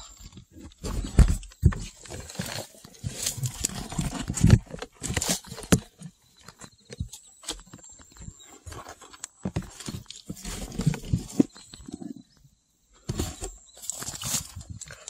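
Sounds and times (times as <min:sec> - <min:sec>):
mole scratching in loose soil: 0:00.0 - 0:12.4, 0:13.0 - 0:15.0.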